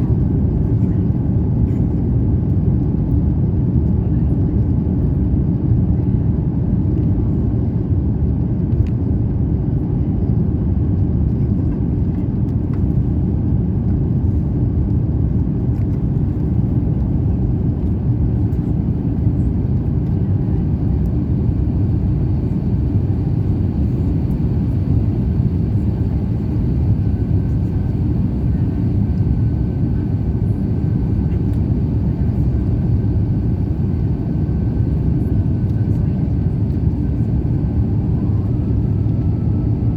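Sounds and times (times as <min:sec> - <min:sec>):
aircraft cabin low rumble: 0:00.0 - 0:39.9.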